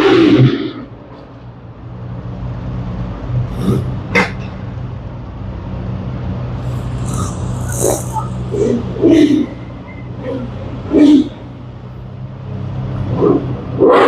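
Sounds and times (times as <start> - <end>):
car engines rumbling: 0.0 - 14.0.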